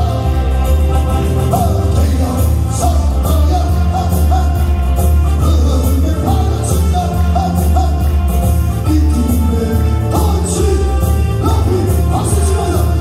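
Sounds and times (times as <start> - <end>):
heavy steady bass: 0.0 - 13.0
praise song with singing voice: 0.0 - 13.0.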